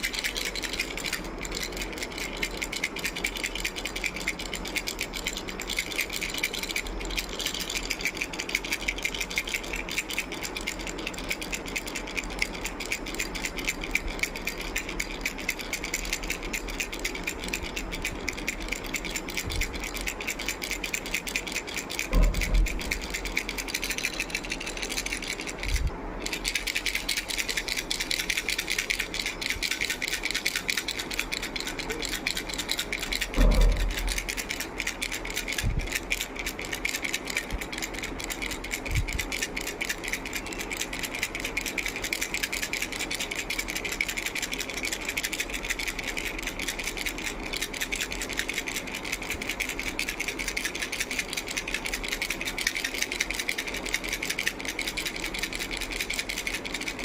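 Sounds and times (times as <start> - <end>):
toy rattle shaken: 0.0 - 57.0.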